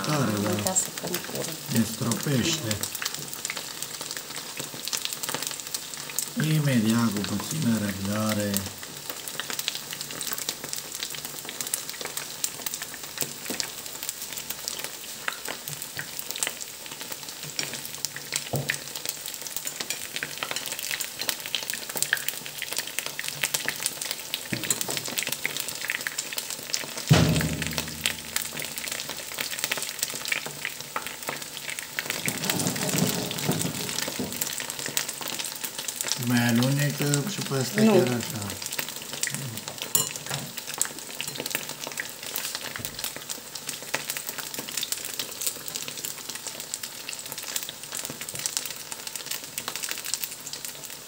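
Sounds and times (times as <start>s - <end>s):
oil popping and crackling: 0.0s - 51.0s
onion rings sizzling in oil: 0.0s - 51.0s.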